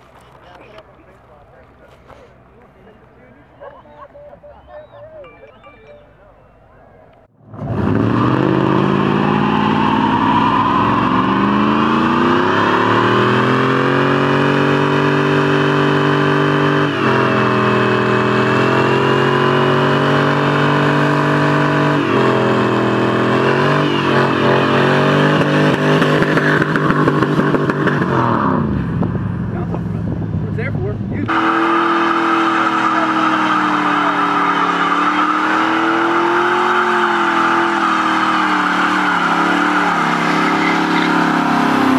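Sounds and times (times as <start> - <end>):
pickup engine revving: 7.4 - 41.9.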